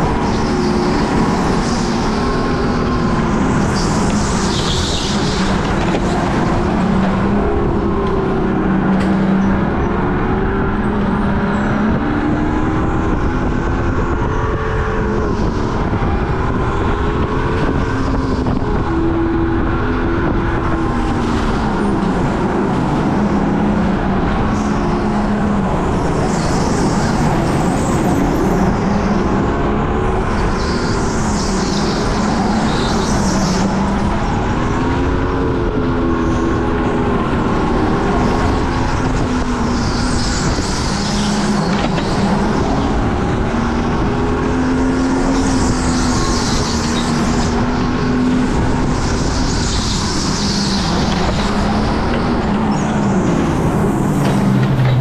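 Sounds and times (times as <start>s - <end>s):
go-kart engine revving: 0.0s - 55.0s
steady rushing noise: 0.0s - 55.0s.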